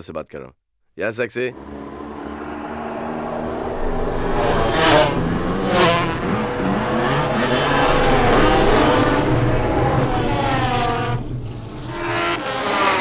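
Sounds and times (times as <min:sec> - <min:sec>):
car engine running: 0:01.5 - 0:13.0
tyres squealing and skidding: 0:01.6 - 0:13.0.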